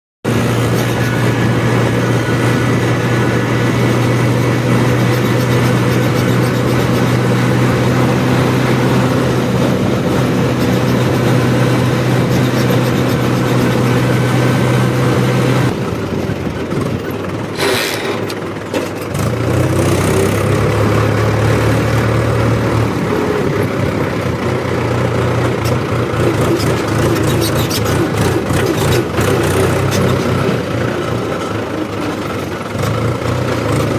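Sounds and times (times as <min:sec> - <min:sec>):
diesel engine running: 0:00.2 - 0:33.9.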